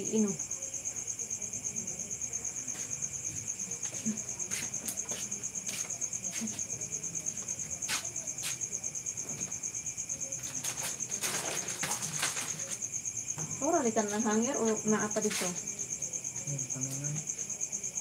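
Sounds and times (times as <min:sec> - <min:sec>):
cricket trilling: 0:00.0 - 0:18.0.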